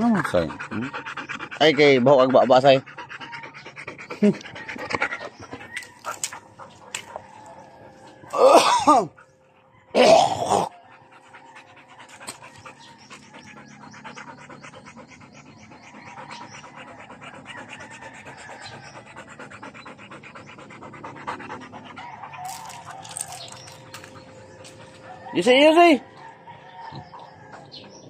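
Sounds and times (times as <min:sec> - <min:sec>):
dog panting: 0:00.0 - 0:08.3, 0:09.0 - 0:09.9, 0:10.7 - 0:28.0.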